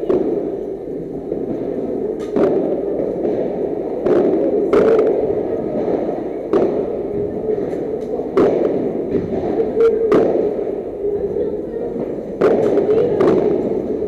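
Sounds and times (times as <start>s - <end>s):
indoor hall hum: 0.0s - 14.0s.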